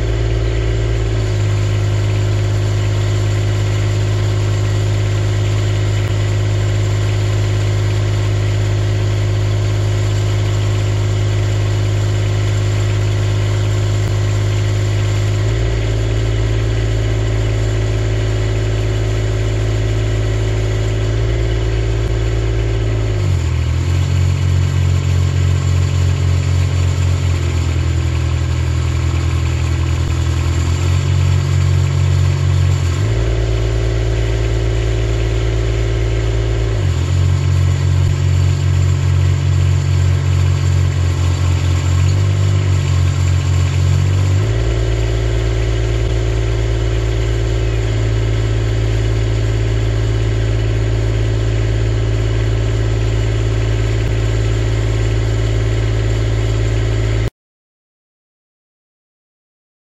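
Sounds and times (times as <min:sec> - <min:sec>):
digger engine and hydraulics: 0:00.0 - 0:57.3.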